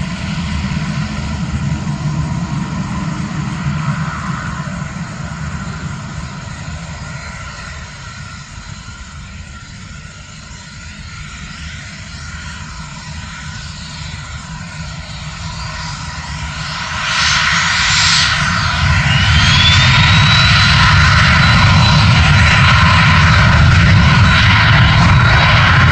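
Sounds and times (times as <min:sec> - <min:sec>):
jet engines at takeoff thrust: 0:00.0 - 0:25.9.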